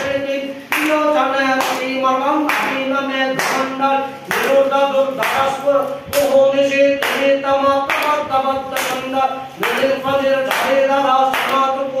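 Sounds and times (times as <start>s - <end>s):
voices singing a chant: 0.0s - 12.0s
sharp hand clap: 0.7s - 6.4s, 7.0s - 11.9s.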